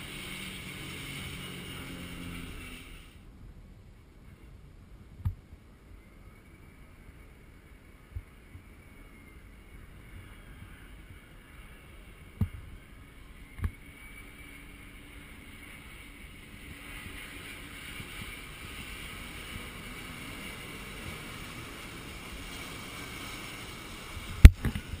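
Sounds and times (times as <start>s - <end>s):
jet aircraft passing overhead: 0.0s - 3.2s, 6.0s - 25.0s.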